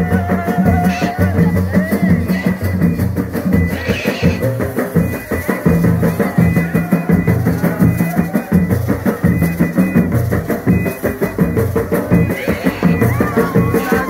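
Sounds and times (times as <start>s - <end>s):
frame drums beating: 0.0s - 14.0s.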